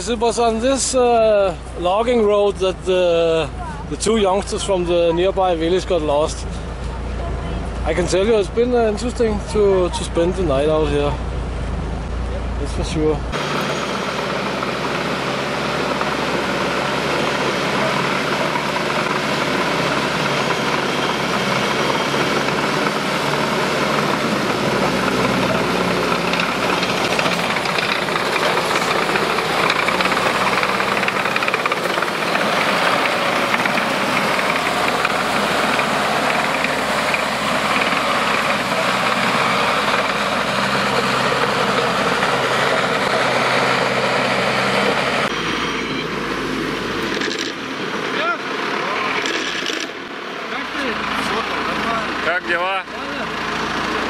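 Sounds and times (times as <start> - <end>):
tracked vehicle engine and tracks: 0.0 - 54.0.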